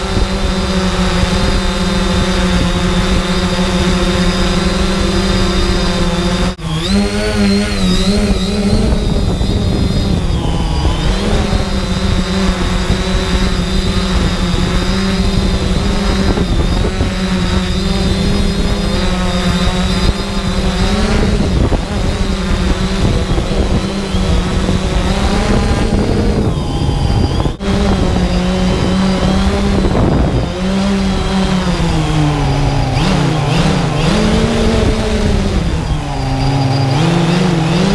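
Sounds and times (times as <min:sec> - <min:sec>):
drone propellers buzzing: 0:00.0 - 0:37.9.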